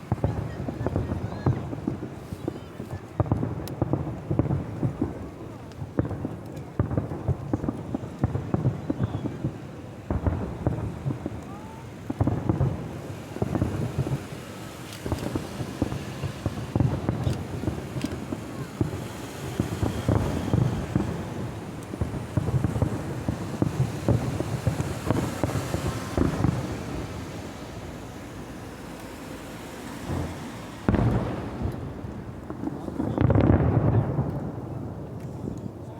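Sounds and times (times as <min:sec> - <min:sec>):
fireworks booming and crackling: 0:00.0 - 0:35.9.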